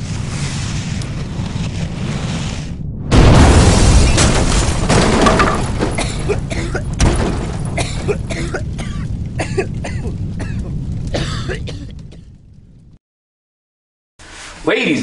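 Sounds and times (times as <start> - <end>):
debris crackles and clatters: 0.0 - 13.0
explosion blast rumbling: 0.0 - 13.0.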